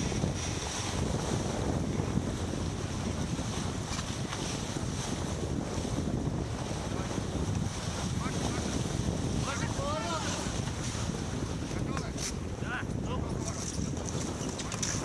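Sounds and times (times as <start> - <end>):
water washing along hull: 0.0 - 15.0
wind buffeting microphone: 0.0 - 15.0.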